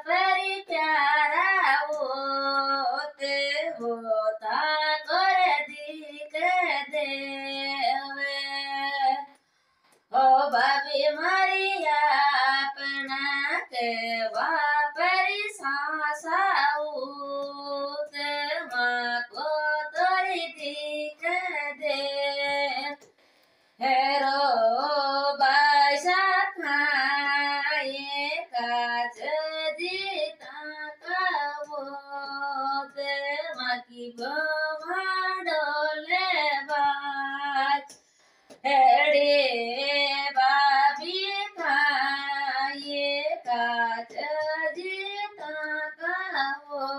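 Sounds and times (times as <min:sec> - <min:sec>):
woman singing unaccompanied: 0:00.0 - 0:09.4, 0:10.1 - 0:23.1, 0:23.8 - 0:38.0, 0:38.6 - 0:46.9.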